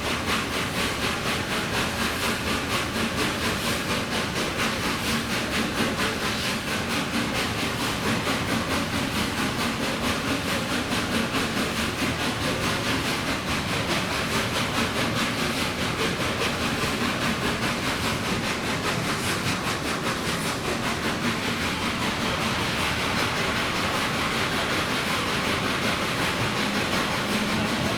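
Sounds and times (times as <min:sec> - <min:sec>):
steam train rumble and hiss: 0:00.0 - 0:27.9.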